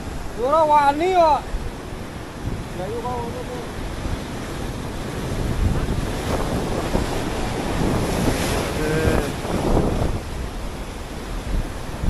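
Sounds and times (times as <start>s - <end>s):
sea surf washing on beach: 0.0s - 12.0s
wind buffeting microphone: 0.0s - 12.0s.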